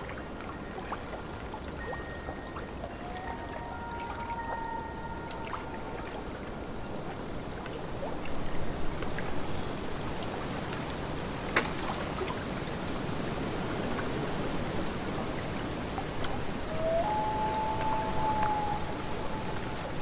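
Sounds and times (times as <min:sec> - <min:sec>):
lake waves washing: 0:00.0 - 0:20.0
wind: 0:00.0 - 0:20.0.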